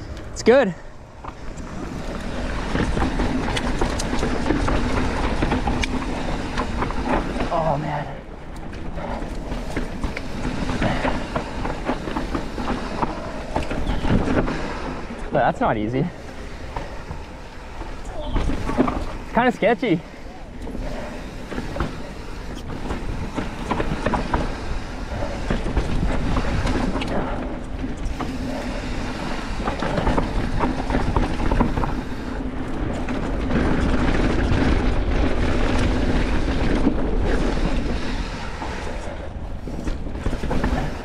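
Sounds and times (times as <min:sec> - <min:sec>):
bike rattling and clicking: 0:00.0 - 0:41.0
tyres rolling over dirt: 0:00.0 - 0:41.0.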